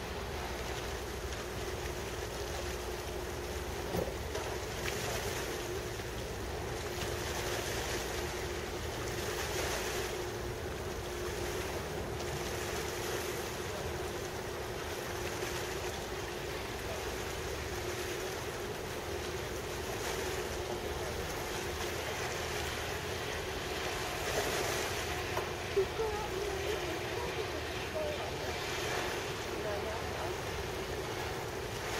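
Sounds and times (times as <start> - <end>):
choppy water: 0.0 - 31.9
low machinery hum: 0.0 - 31.9.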